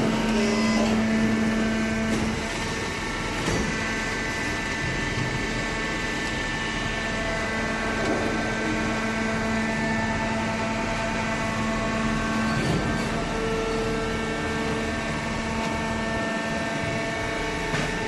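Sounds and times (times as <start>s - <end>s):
constant mechanical noise: 0.0s - 18.0s
hydraulic machine hum: 0.0s - 18.0s.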